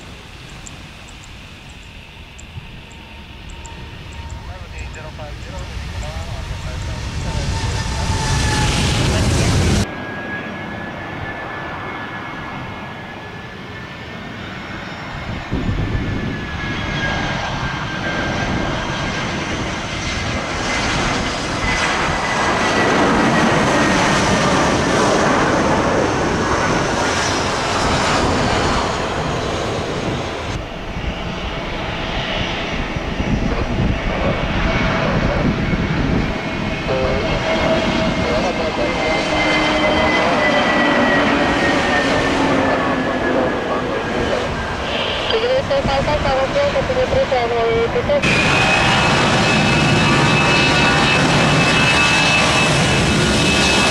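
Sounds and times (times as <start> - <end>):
jet engines whining and roaring: 0.0 - 53.9.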